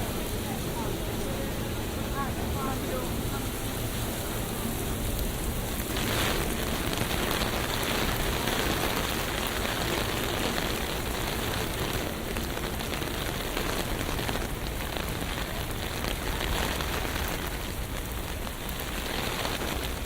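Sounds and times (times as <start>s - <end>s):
rain hissing on street: 0.0s - 20.0s.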